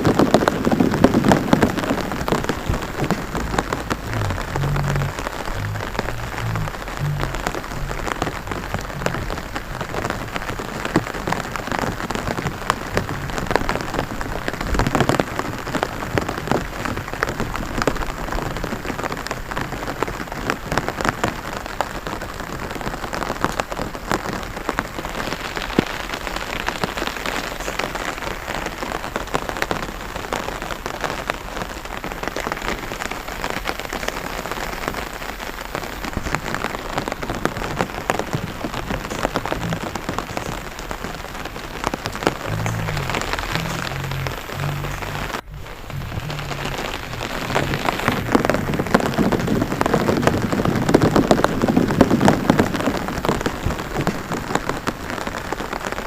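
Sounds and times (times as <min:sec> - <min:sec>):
rain pattering on water: 0:00.0 - 0:56.0.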